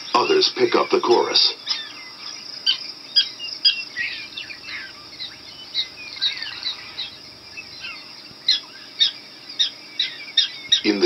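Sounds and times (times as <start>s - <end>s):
prairie dogs barking high yips: 0.0s - 11.0s.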